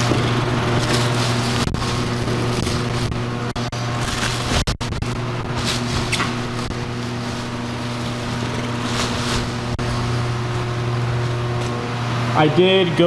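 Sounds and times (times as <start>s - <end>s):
plastic and bubble wrap crinkling: 0.0s - 11.8s
low machine hum: 0.0s - 13.0s.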